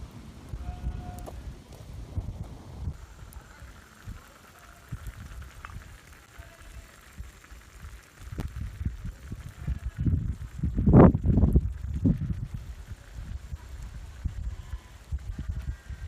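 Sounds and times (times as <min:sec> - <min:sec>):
campfire crackles and pops: 0:00.0 - 0:16.0
low uneven rumble: 0:00.0 - 0:16.0
stew bubbling in a pot: 0:00.4 - 0:16.0.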